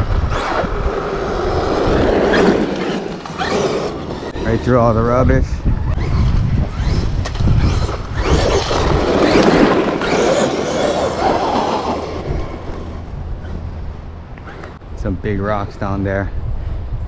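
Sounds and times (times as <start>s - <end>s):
tyres on rocky ground: 0.0s - 16.3s.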